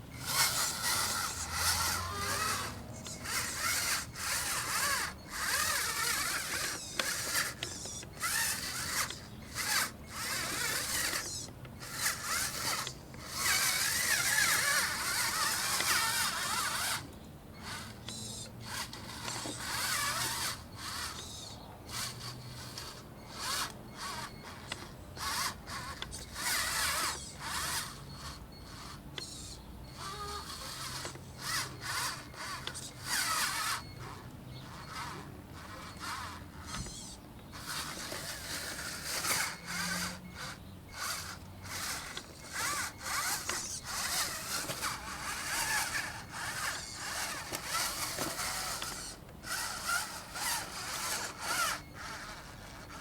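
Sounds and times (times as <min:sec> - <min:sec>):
electric motors whining: 0:00.0 - 0:53.0.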